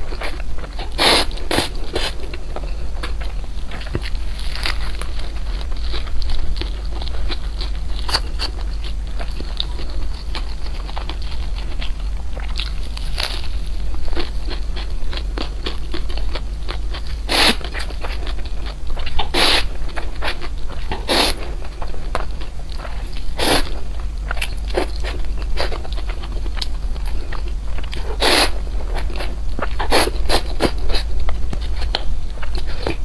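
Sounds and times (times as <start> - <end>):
crunchy bites: 0.0 - 33.0
chewing with wet clicks: 2.2 - 33.0.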